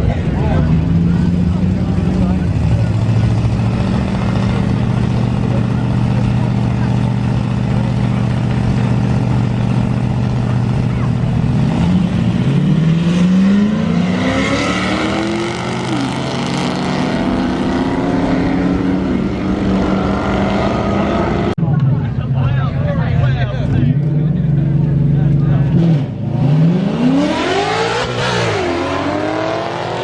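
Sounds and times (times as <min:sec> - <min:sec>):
car engine accelerating: 0:00.0 - 0:21.9, 0:22.9 - 0:30.0.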